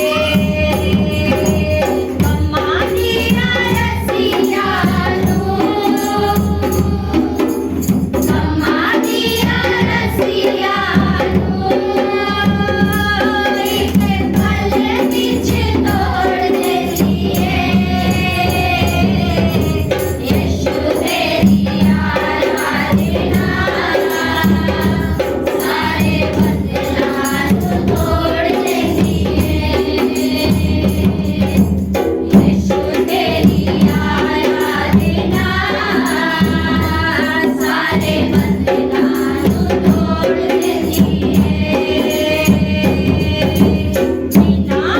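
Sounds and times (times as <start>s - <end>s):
congregation singing a worship song: 0.0s - 44.9s
tambourine and hand percussion: 0.0s - 44.9s.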